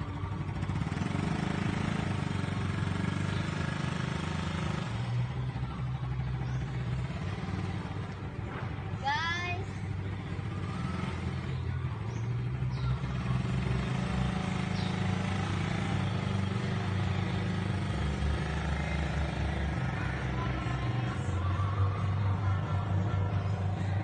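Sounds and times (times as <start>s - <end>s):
motor scooter engine droning: 0.0s - 24.0s.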